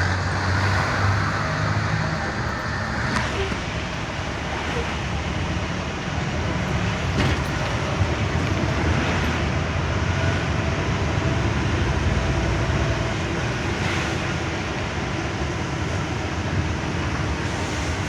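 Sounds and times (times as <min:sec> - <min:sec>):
truck engine rumble: 0:00.0 - 0:18.0.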